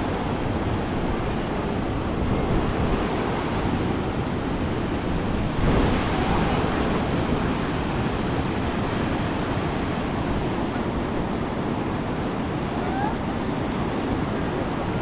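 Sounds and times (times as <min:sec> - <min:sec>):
surf washing up a beach: 0:00.0 - 0:15.0.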